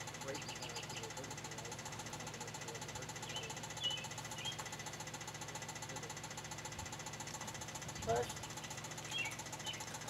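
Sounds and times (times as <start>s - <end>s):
machine running with rattly beat: 0.0s - 10.0s.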